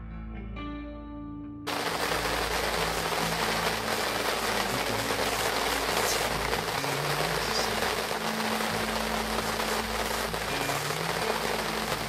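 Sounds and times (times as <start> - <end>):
rain on a vehicle: 1.7 - 12.0.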